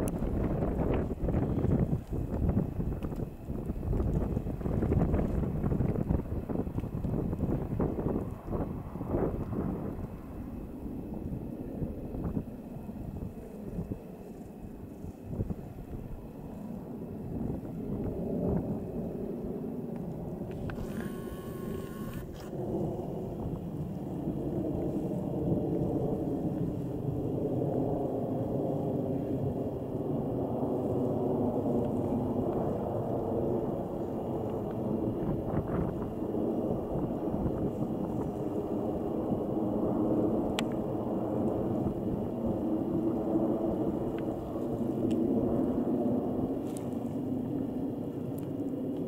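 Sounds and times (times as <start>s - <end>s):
faint drone of steady tones: 0.0s - 49.0s
jet engines roaring overhead: 0.0s - 49.0s.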